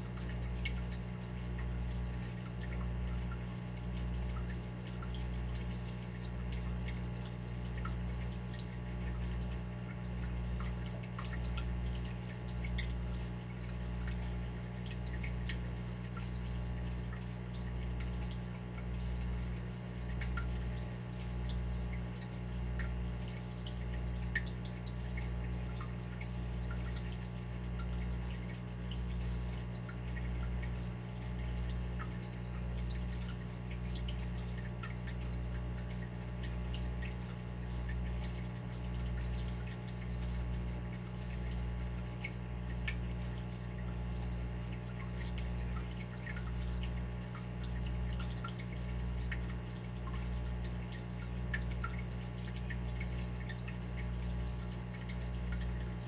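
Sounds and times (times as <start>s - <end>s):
water dripping: 0.0s - 56.0s.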